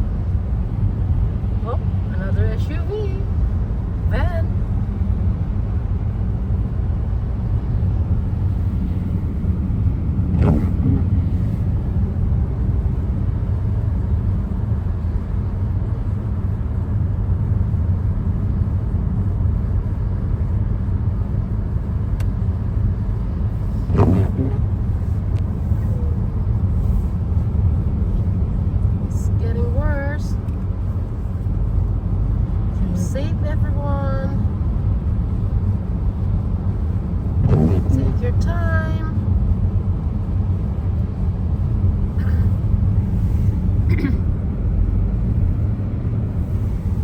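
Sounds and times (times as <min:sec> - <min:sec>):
car road rumble: 0:00.0 - 0:47.0.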